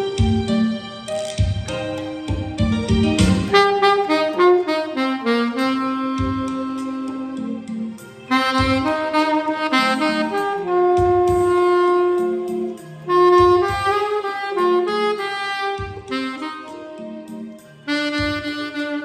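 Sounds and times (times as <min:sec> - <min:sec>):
saxophone slow melody: 0:00.0 - 0:19.0.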